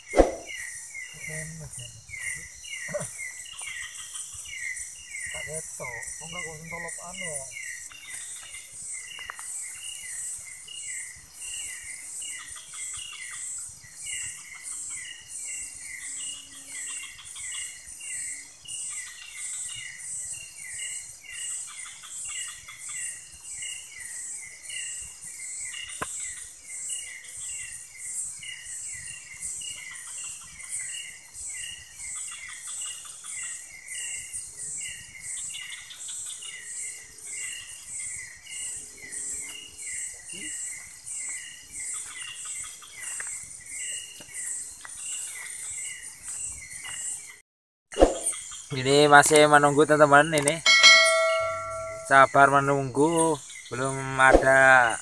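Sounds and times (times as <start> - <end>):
insects pulsing buzz: 0.0 - 47.4
rapid insect chirps: 0.0 - 47.4, 48.0 - 55.0.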